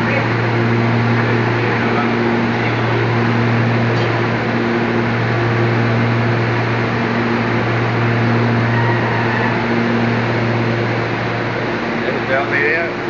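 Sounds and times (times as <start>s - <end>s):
leaf dryer mechanical drone: 0.0s - 13.0s.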